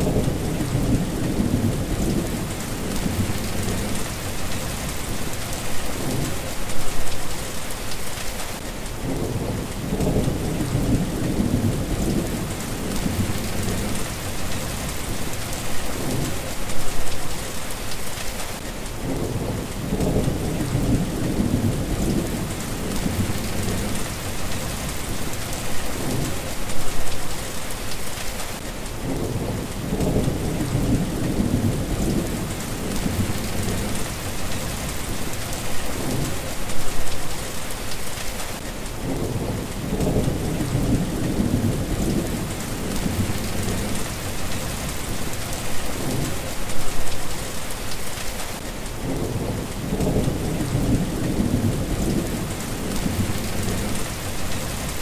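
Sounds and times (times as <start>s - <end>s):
thunder rumbling: 0.0s - 7.1s, 9.0s - 17.1s, 19.0s - 27.2s, 29.0s - 37.2s, 39.0s - 47.2s, 49.0s - 55.0s
rain hissing: 0.0s - 55.0s.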